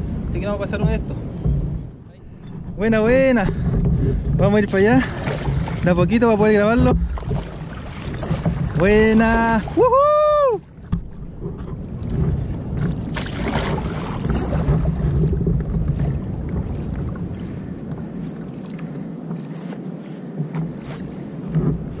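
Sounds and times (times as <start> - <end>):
water washing along hull: 0.0 - 22.0
wind rumbling on microphone: 0.0 - 22.0
paddle strokes: 0.8 - 22.0.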